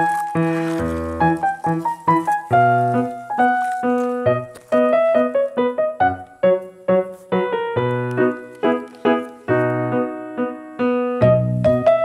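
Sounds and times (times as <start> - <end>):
piano-like keyboard melody: 0.0 - 12.0.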